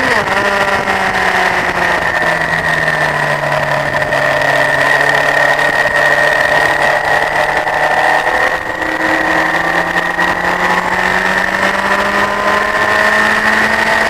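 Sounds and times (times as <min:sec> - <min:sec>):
motorcycle engine running: 0:00.0 - 0:14.0
wind noise: 0:00.0 - 0:14.0.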